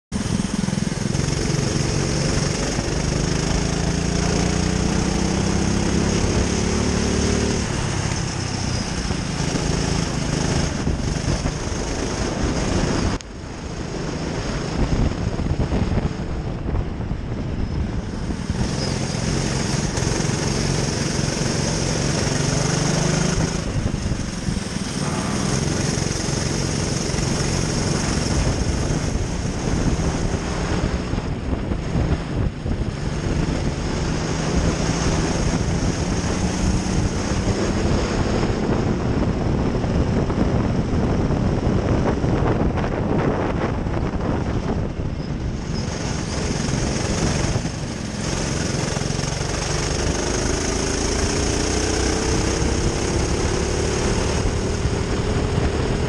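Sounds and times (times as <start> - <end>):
kart engine accelerating: 0.2 - 13.2, 18.1 - 42.4, 45.6 - 56.0.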